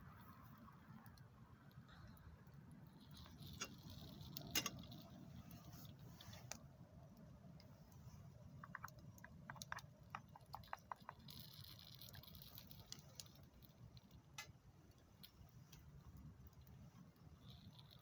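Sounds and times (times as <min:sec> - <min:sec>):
soft hiss: 0:00.0 - 0:18.0
campfire crackling: 0:00.1 - 0:18.0.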